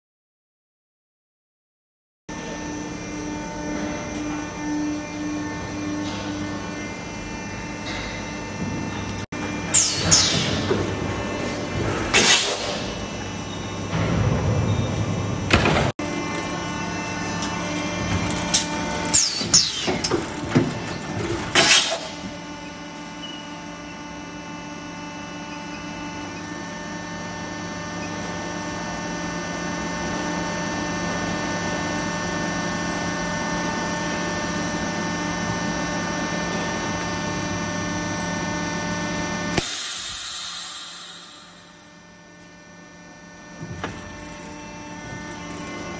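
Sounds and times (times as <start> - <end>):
hydraulic pump hum: 2.3 - 27.5, 33.0 - 45.9.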